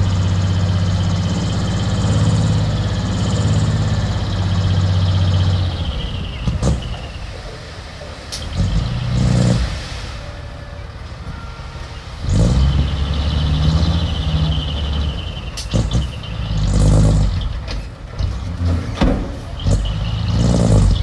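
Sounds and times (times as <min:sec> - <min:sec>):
heavy machine engine revving: 0:00.0 - 0:21.0.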